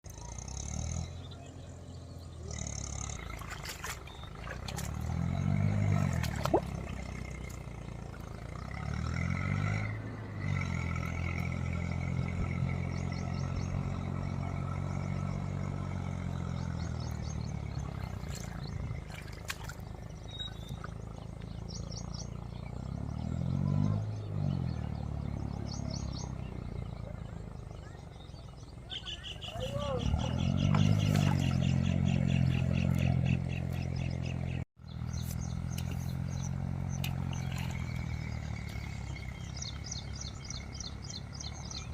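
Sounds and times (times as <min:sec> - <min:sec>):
tractor diesel engine revving: 0:00.0 - 0:41.9.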